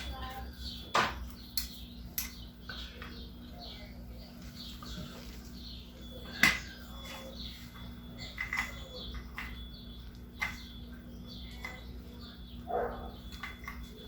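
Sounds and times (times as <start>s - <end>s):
faint bird chirps: 0.0s - 14.0s
low steady hum: 0.0s - 14.0s.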